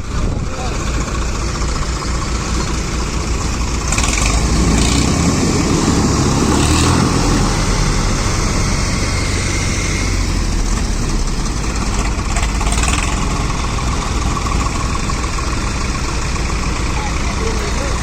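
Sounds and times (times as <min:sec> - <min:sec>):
diesel tractor engine idling: 0:00.0 - 0:18.0.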